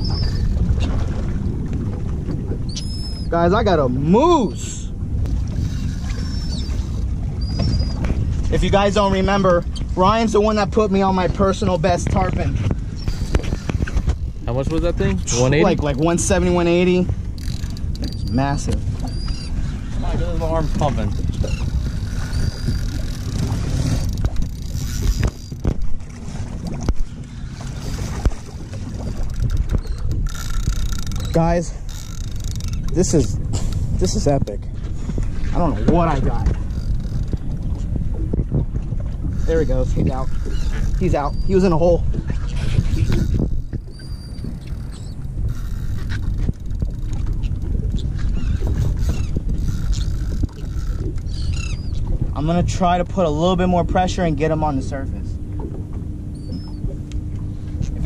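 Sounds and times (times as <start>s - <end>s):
water around a boat: 0.0s - 58.0s
wind rumbling on microphone: 0.0s - 58.0s.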